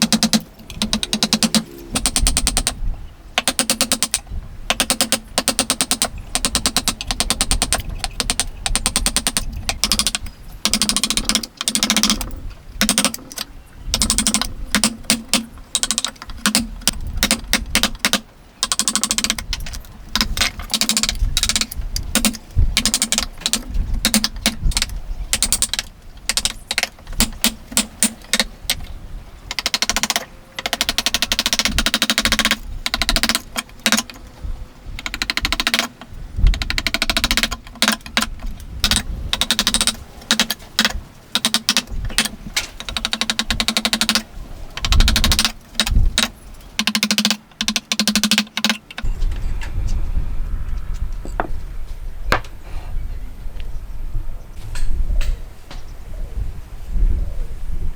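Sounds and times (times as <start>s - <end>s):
hand tools clicking on wood: 0.0s - 2.8s, 3.4s - 28.9s, 29.5s - 34.2s, 35.0s - 49.1s.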